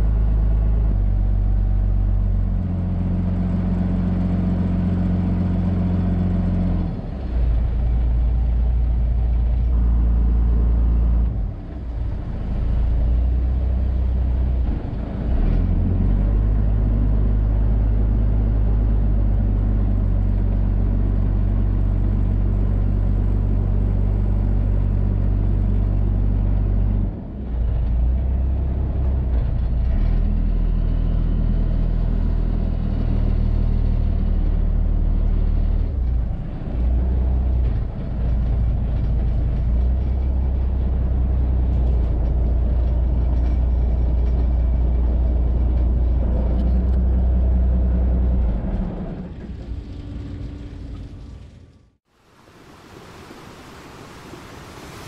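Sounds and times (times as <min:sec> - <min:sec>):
boat engine rumbling: 0:00.0 - 0:55.0.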